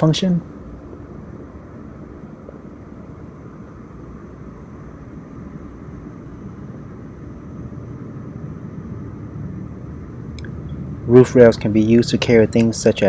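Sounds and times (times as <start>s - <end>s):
faint high steady tone: 0.0s - 13.0s
low outdoor rumble: 0.0s - 13.0s.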